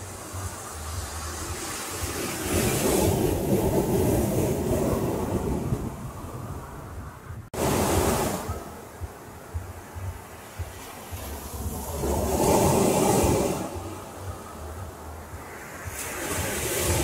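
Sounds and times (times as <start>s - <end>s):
waves breaking on sandy beach: 0.0s - 17.0s.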